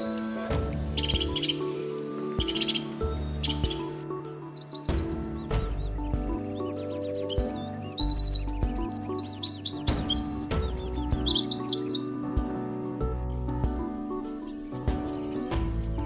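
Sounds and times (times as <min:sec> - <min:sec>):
songbird warbling trills: 0:00.0 - 0:12.1, 0:14.5 - 0:16.0
background music: 0:00.0 - 0:16.0.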